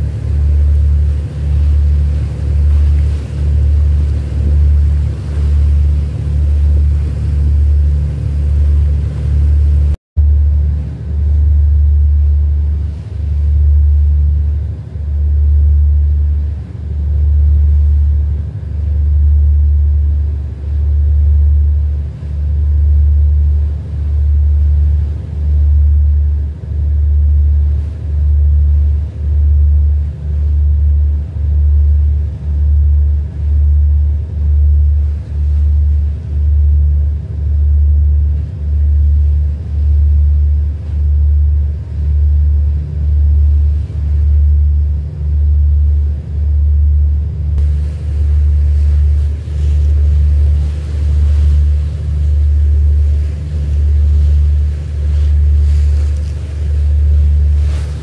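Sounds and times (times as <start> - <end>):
boat engine rumbling: 0.0 - 58.0
faint steady hum: 0.0 - 58.0.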